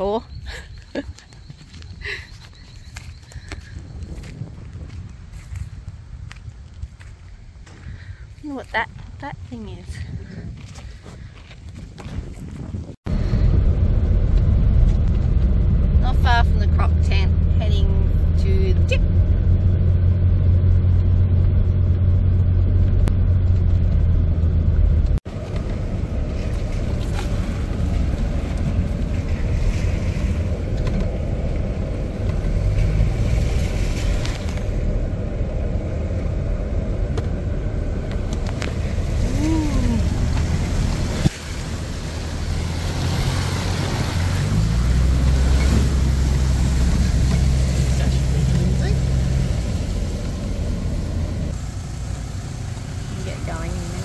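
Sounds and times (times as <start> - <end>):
vehicle engine drone: 0.0 - 9.1, 13.0 - 54.0
tyre and road rumble: 0.0 - 54.0.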